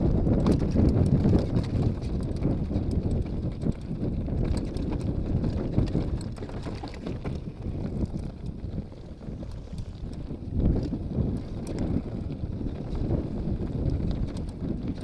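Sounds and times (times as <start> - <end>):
bike rattling and knocking: 0.0 - 15.0
bike tyres rumbling on gravel: 0.0 - 15.0
wind buffeting microphone: 0.0 - 15.0.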